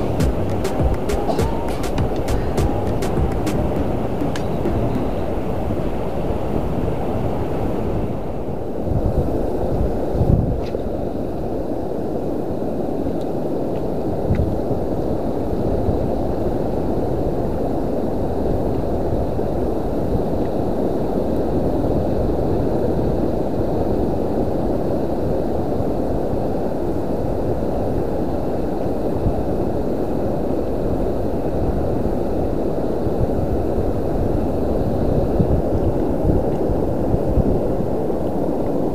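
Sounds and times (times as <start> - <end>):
wind buffeting microphone: 0.0 - 12.1, 13.0 - 38.9
choppy sea water: 0.0 - 38.9.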